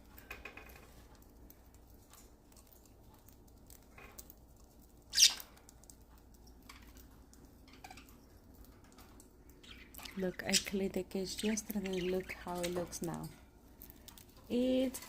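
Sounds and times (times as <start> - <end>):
budgies pecking and scrabbling: 0.2 - 15.0.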